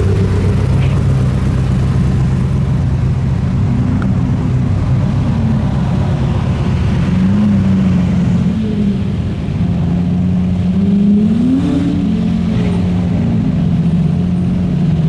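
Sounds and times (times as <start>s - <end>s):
car engine at low revs: 0.0s - 15.0s.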